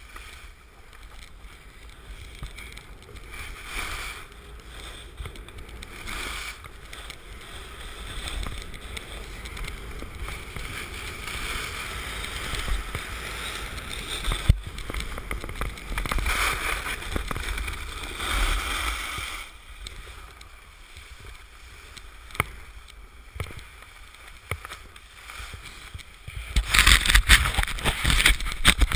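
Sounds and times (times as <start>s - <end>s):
skis sliding on snow: 0.0s - 28.9s
wind rumbling on microphone: 0.0s - 28.9s.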